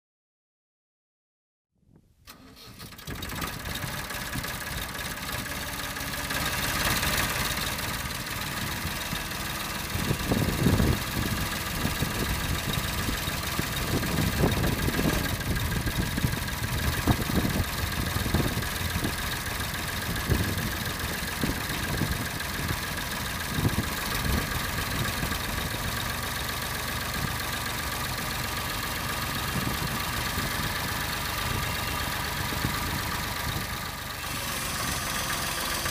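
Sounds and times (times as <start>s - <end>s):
tractor diesel engine running: 2.3s - 35.9s.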